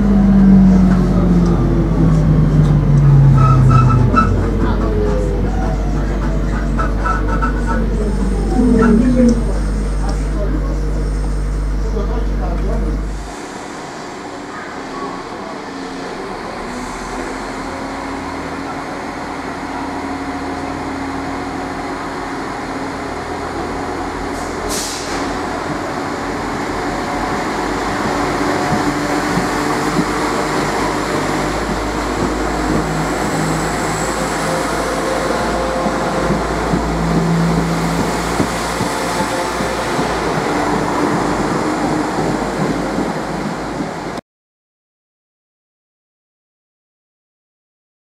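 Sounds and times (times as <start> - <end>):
diesel train engines: 0.0 - 44.2.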